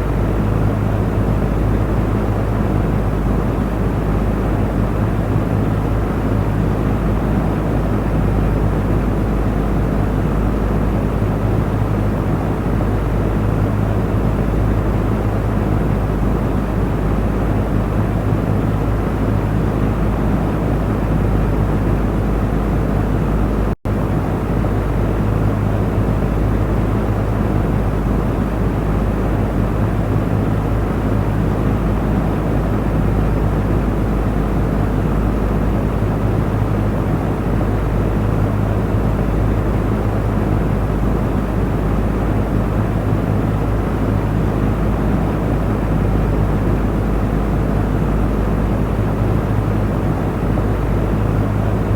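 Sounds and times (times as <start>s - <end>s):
electric fan running: 0.0s - 51.9s.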